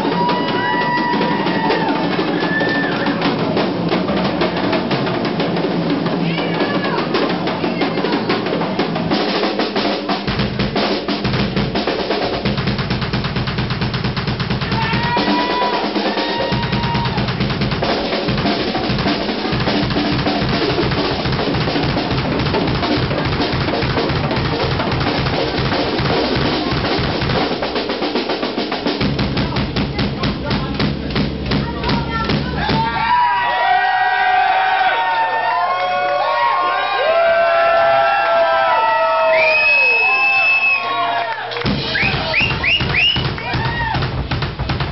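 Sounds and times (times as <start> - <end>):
rapid bass drum strokes: 0.0 - 33.4, 41.6 - 44.9
drum kit solo: 0.0 - 34.4, 41.6 - 44.9.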